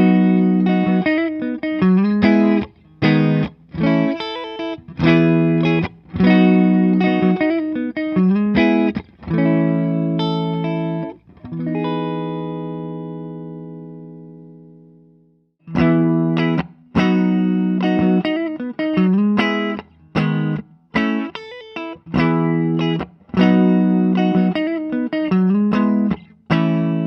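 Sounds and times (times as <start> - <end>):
electric guitar strumming chords: 0.0 - 27.0.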